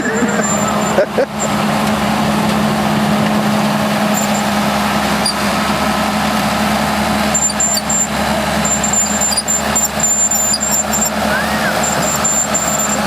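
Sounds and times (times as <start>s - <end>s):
bulldozer engine droning: 0.0s - 13.0s.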